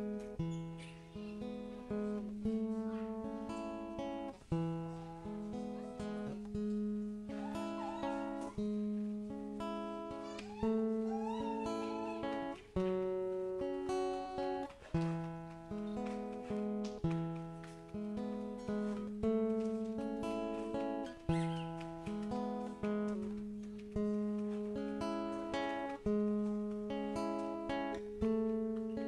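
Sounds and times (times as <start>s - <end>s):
acoustic guitar chords: 0.0s - 29.0s.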